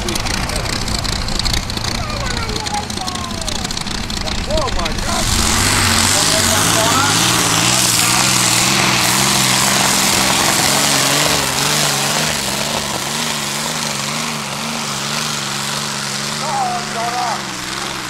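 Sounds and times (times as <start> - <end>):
tractor engine running loud: 0.0 - 18.0.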